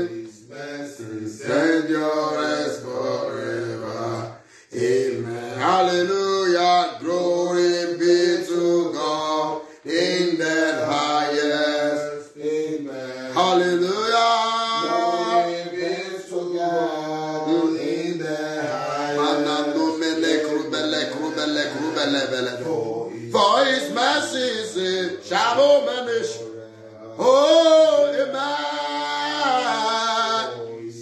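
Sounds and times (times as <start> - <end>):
man singing a chant: 0.0 - 31.0.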